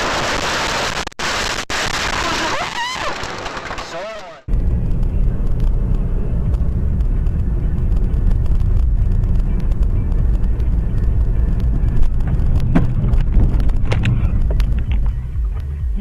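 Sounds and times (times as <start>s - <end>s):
car engine and road noise: 2.8s - 16.0s.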